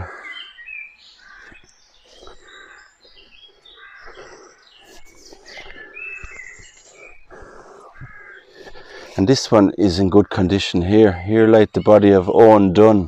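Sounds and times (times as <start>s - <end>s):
birds chirping and whistling: 0.0s - 9.2s, 10.1s - 13.0s.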